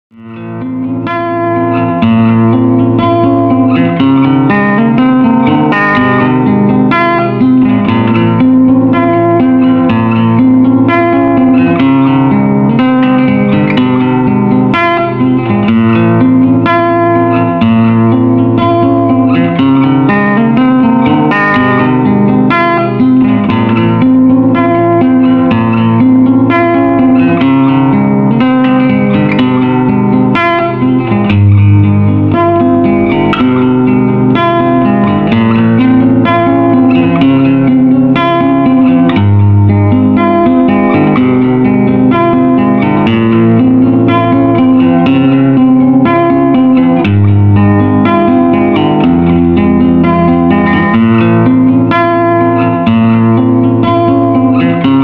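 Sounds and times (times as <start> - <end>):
plucked guitar notes: 0.1 - 55.0.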